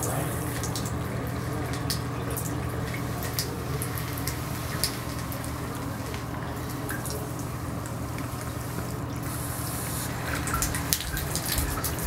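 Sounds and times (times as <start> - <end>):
water drips and ticks: 0.0 - 9.4, 10.1 - 12.0
faucet water stream into tub: 0.0 - 12.0.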